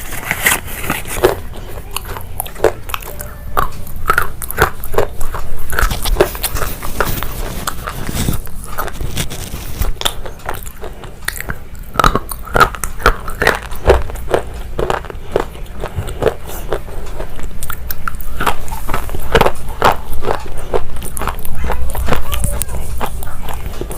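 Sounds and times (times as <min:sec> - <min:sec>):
person chewing crunchy food: 0:00.0 - 0:23.9.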